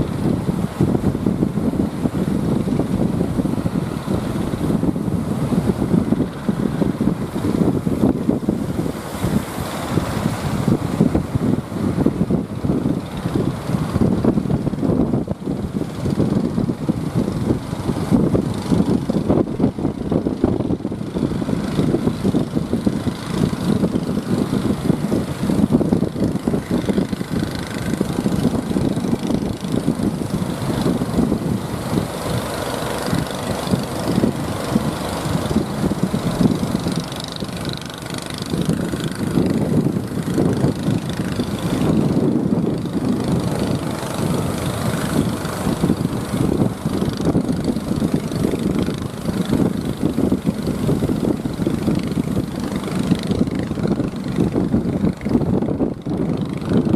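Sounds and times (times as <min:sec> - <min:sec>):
boat engines rumbling: 0:00.0 - 0:56.9
wind buffeting microphone: 0:00.0 - 0:56.9.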